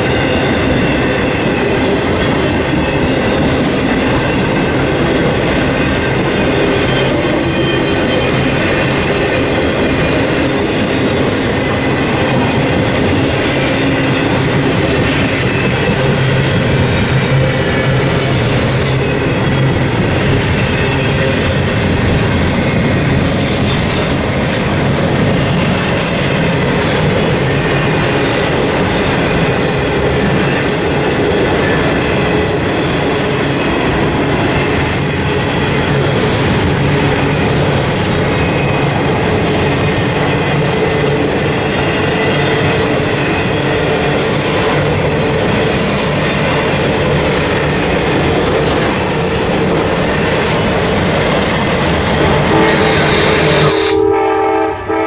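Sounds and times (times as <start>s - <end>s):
freight train rolling on rails: 0.0s - 55.0s.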